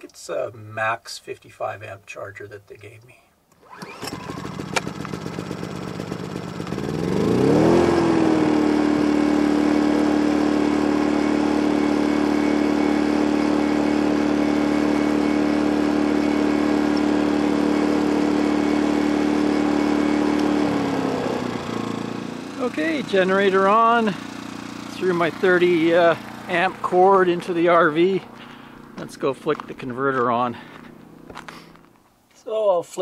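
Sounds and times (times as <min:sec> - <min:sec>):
generator engine running: 0:03.6 - 0:32.1.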